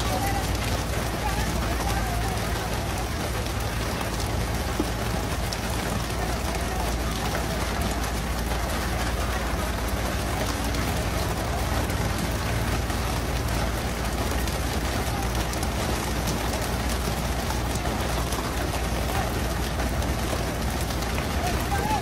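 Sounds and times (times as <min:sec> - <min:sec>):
boat engine rumble: 0:00.0 - 0:22.0
water spraying and splashing: 0:00.0 - 0:22.0.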